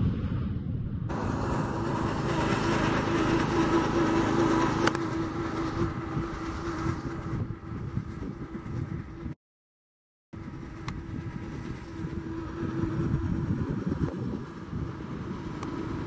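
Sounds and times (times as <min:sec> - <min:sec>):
mechanical rumble with low hum: 0:00.0 - 0:09.4, 0:10.4 - 0:16.0.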